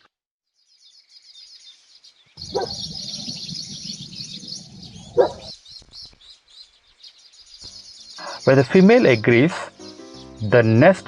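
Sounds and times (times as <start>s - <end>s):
birds chirping and chattering: 0.6s - 11.0s.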